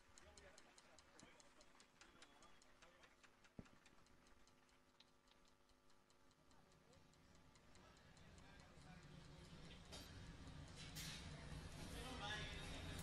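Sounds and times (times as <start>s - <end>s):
faint even ticking: 0.0s - 10.7s.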